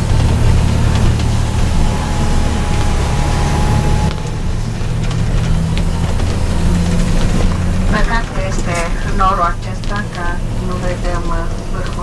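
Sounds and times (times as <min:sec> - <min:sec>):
coach engine drone: 0:00.0 - 0:12.0.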